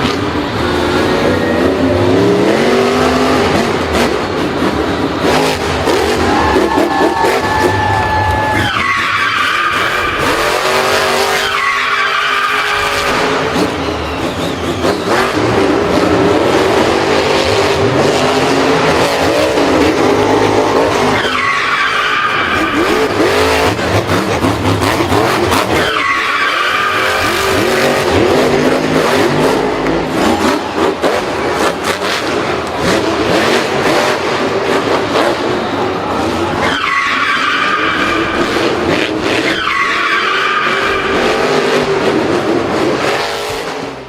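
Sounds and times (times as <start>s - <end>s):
engines revving hard: 0.0s - 44.0s
tyres skidding: 0.0s - 44.0s.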